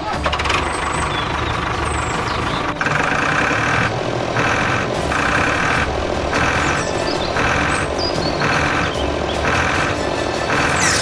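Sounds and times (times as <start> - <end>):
tractor engine rumbling: 0.0 - 11.0.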